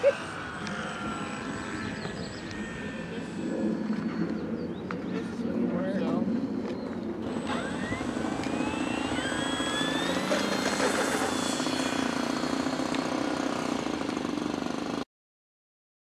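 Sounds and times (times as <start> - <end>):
electric motor and propeller whining: 0.0 - 15.0.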